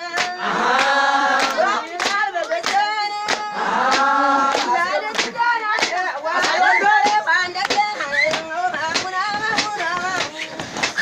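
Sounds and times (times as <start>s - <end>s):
hand claps: 0.0s - 11.0s
voices singing together: 0.0s - 11.0s.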